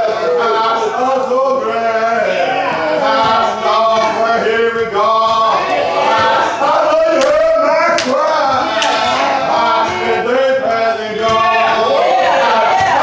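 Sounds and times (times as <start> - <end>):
voices singing along: 0.0 - 13.0.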